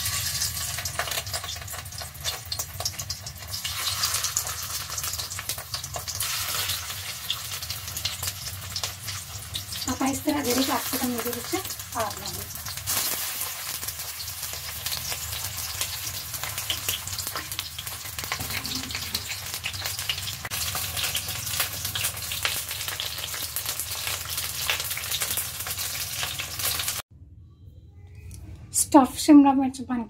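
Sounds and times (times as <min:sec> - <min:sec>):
peppers sizzling in oil: 0:00.0 - 0:27.0.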